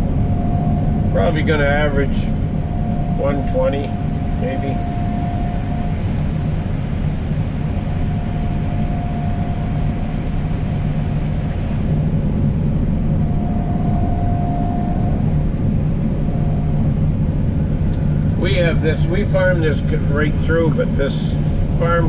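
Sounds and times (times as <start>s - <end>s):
combine harvester low rumble: 0.0s - 22.0s
thin steady whine: 0.0s - 22.0s.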